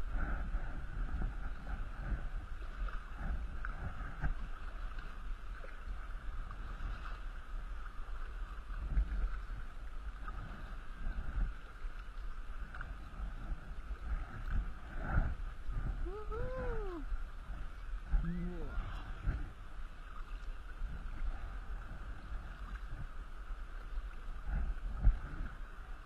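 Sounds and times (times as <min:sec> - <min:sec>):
low rumble: 0:00.0 - 0:26.0
paddle strokes in water: 0:00.0 - 0:26.0
water lapping against hull: 0:00.0 - 0:26.0.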